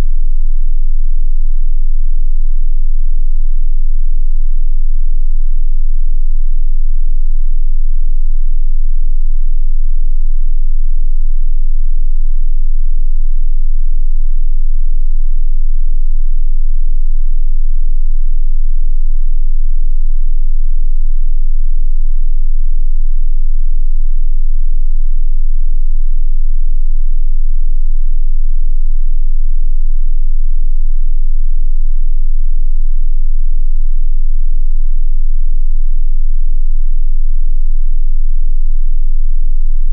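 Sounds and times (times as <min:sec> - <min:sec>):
low sine test tone: 0:00.0 - 0:39.9.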